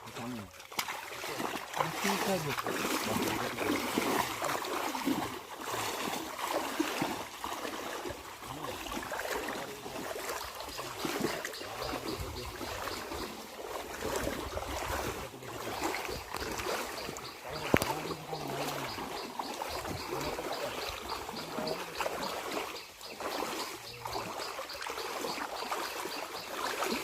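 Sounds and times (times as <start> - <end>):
water rushing and splashing: 0.0 - 27.0.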